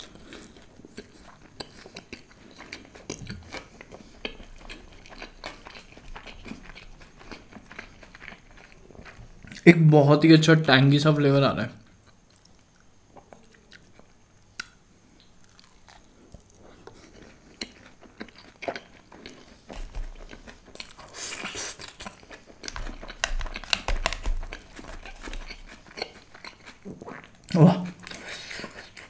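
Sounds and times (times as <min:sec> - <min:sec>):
dense steady chewing: 0:00.0 - 0:09.7, 0:11.8 - 0:29.0.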